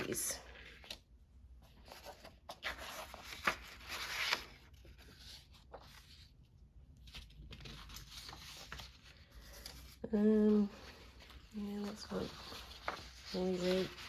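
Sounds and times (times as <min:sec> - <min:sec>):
paper rustling: 0:00.0 - 0:14.0.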